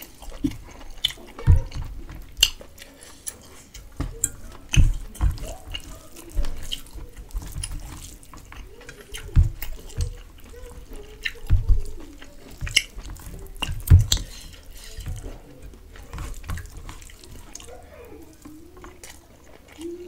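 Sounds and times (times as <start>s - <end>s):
fingers squelching food on plate: 0.0s - 20.0s.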